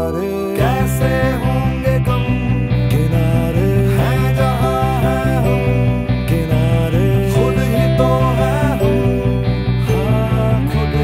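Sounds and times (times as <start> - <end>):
melodic song over steady beat: 0.6 - 11.0.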